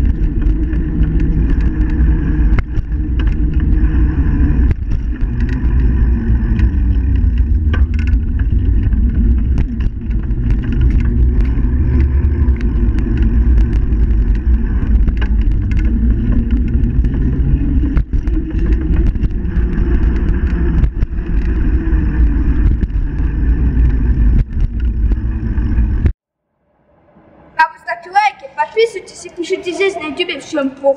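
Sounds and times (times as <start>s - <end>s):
bicycle knocks and rattles: 0.0s - 26.2s
bicycle riding rumble: 0.0s - 26.2s.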